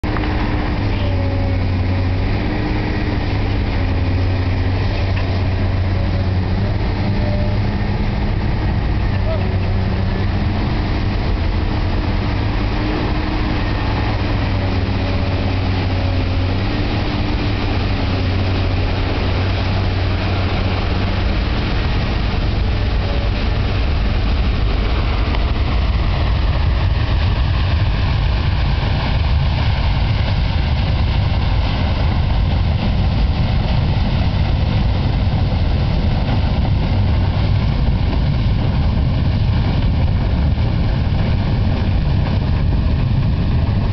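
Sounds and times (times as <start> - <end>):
drilling rig engines running: 0.0 - 43.9
roar of gas jetting from well: 0.0 - 43.9.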